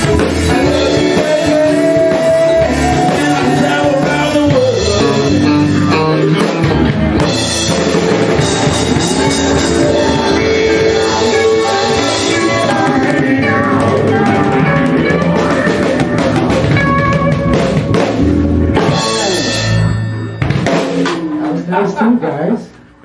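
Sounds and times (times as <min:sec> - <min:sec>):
blues band playing live: 0:00.0 - 0:21.7.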